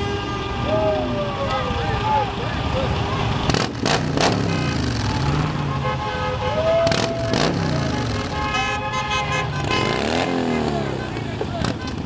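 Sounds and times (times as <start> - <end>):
vehicles passing on road: 0.0 - 12.0.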